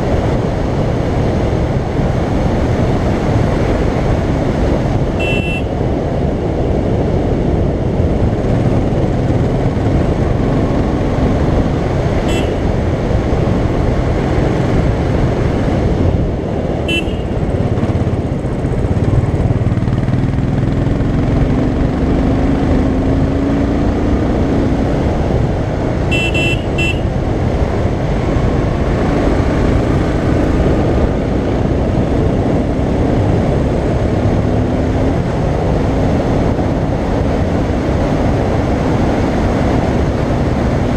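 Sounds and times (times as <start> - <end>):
motorcycle engine running: 0.0 - 40.4
wind rush: 0.0 - 40.9.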